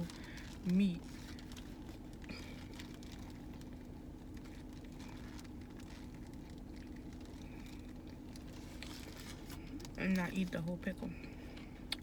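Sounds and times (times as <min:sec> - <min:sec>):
crunching and chewing food: 0:00.0 - 0:12.0
low hum inside a car: 0:00.0 - 0:12.0.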